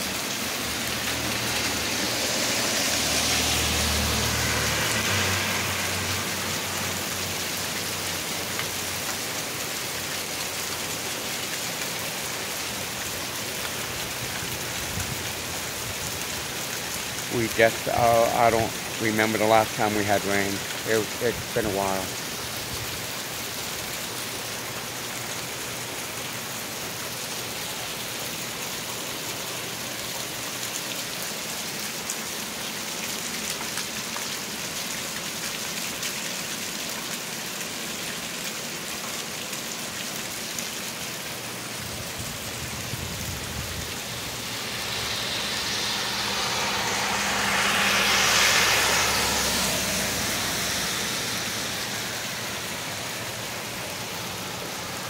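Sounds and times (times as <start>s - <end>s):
rain falling on pavement: 0.0s - 55.0s
vehicle tyres hissing on wet road: 0.0s - 55.0s.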